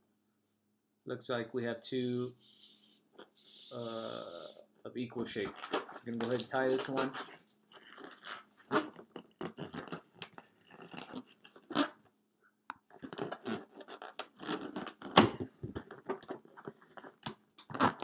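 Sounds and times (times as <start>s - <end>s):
balloon rubber rubbing: 2.1s - 4.6s, 5.2s - 12.0s, 12.9s - 18.0s.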